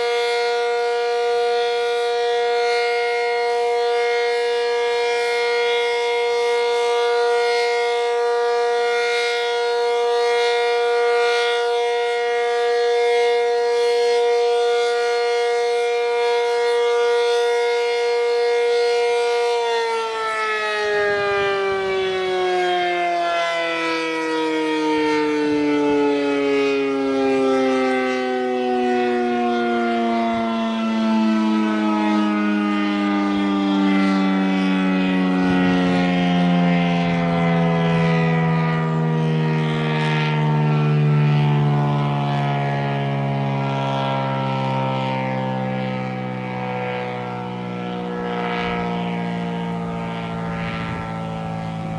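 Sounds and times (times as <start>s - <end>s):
warning siren: 0.0s - 51.9s.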